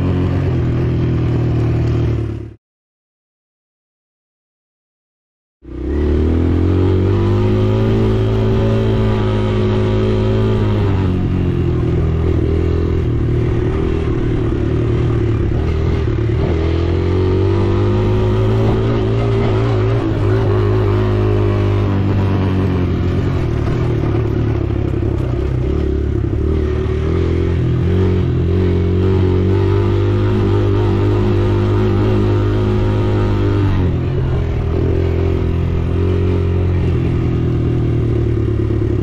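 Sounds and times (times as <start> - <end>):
dirt bike engine revving: 5.7 - 39.0.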